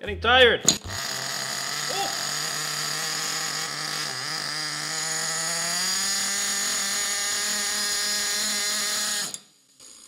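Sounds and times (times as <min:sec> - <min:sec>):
small nitro engine buzzing: 0:00.8 - 0:10.0.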